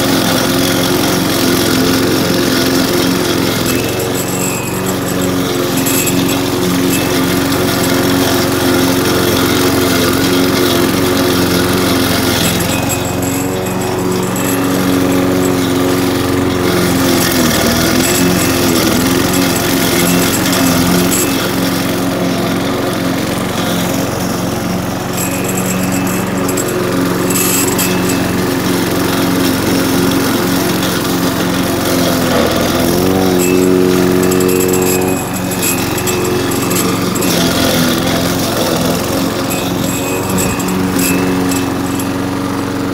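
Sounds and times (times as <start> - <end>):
lawn mower engine cutting grass: 0.0 - 42.9.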